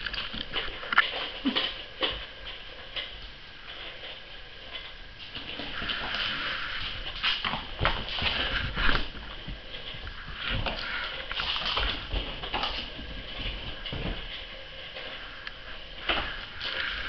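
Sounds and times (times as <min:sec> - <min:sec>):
paws thumping and pattering: 0:00.0 - 0:17.0
steady background hiss: 0:00.0 - 0:17.0.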